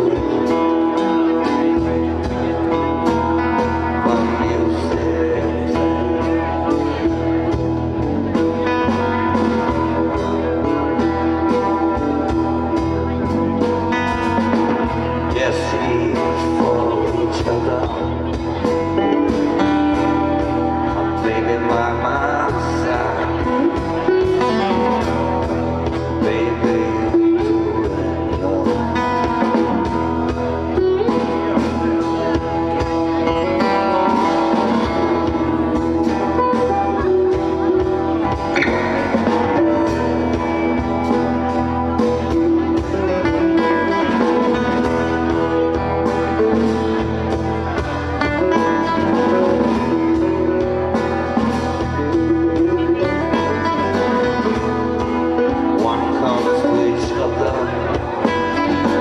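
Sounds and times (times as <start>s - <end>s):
drum kit beat: 0.0s - 59.0s
electric bass: 0.0s - 59.0s
live band playing: 0.0s - 59.0s.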